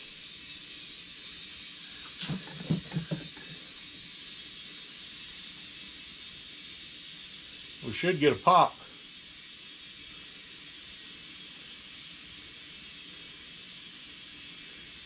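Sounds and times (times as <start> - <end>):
compressed air hissing into tire: 0.0 - 15.0.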